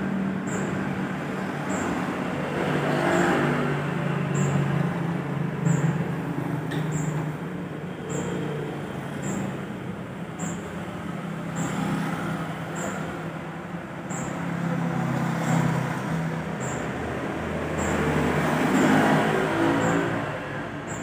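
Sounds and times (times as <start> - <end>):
motorcycles passing: 0.0 - 21.0
road traffic: 0.0 - 21.0.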